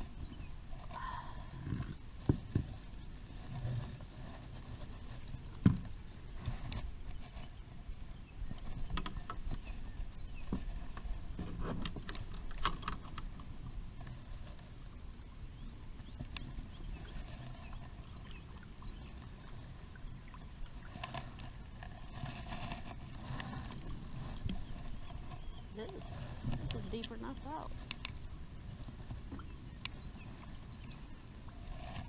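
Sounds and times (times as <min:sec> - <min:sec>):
water sloshing against hull: 0:00.0 - 0:32.0.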